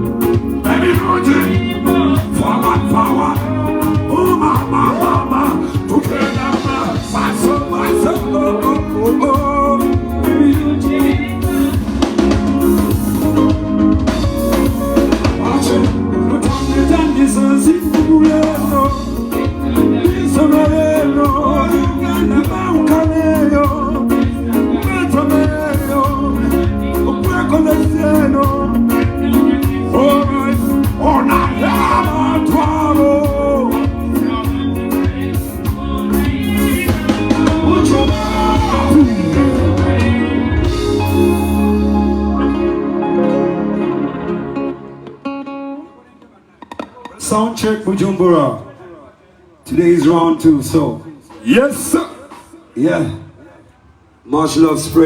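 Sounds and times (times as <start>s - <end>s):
person singing: 0.0s - 45.9s
band playing a song: 0.0s - 48.0s.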